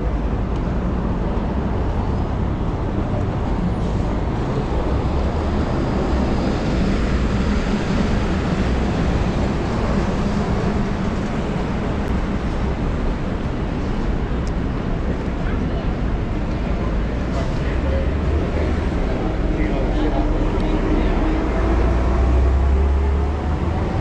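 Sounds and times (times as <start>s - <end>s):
city traffic: 0.0s - 24.0s
wind rumbling on microphone: 0.0s - 24.0s.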